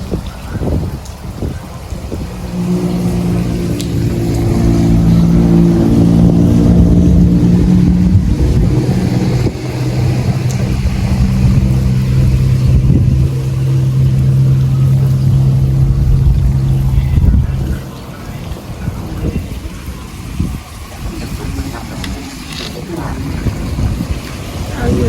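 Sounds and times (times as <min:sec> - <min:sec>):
engine running loudly: 0:00.0 - 0:25.0.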